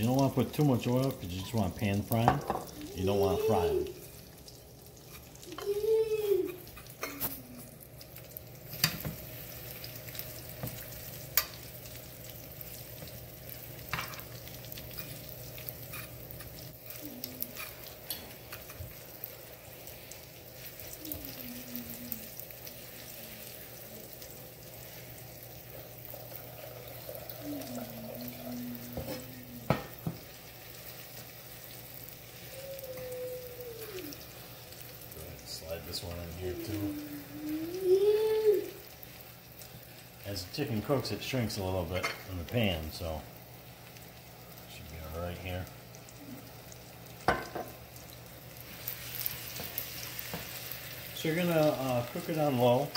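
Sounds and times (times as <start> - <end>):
chicken sizzling in a pan: 0.0 - 52.9.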